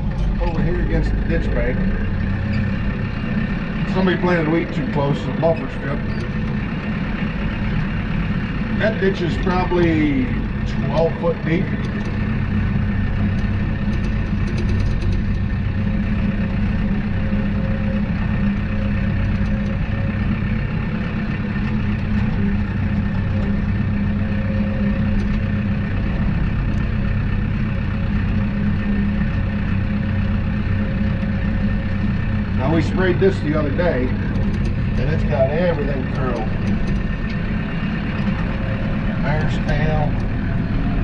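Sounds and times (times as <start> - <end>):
tractor diesel engine droning: 0.0 - 41.0.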